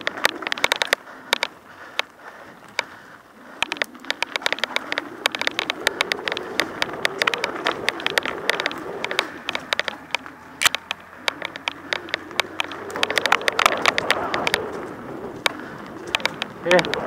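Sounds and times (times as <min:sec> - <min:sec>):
mountain bike rattling over bumps: 0:00.0 - 0:17.0
tyre and wind noise: 0:00.0 - 0:17.0.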